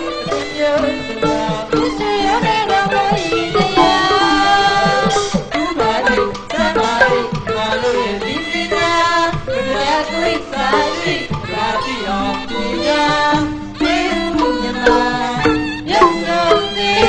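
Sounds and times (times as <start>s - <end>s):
folk music: 0.0s - 17.0s.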